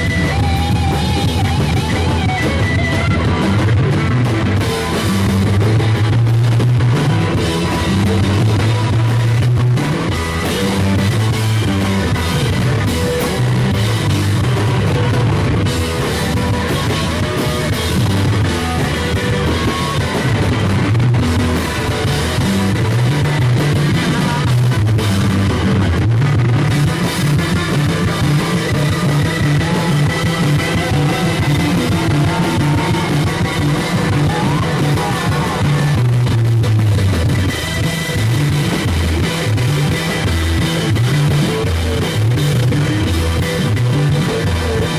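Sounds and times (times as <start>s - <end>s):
drum kit: 0.0s - 44.9s
electric guitars: 0.0s - 44.9s.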